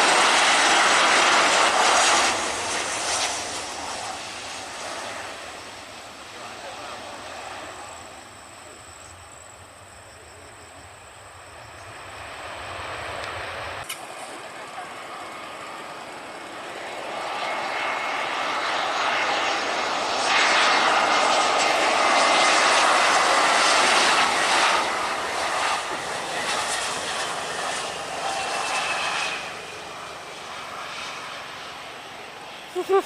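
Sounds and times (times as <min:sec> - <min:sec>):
faint high whine: 0:00.0 - 0:33.0
jet airliner passing: 0:00.0 - 0:33.0.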